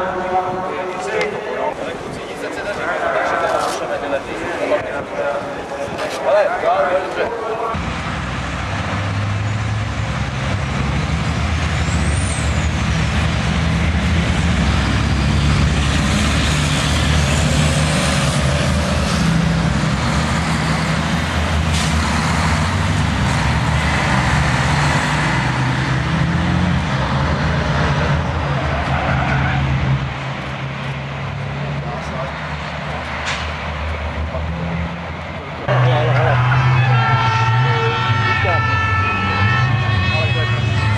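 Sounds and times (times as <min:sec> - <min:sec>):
diesel truck engines passing: 0:00.0 - 0:40.9.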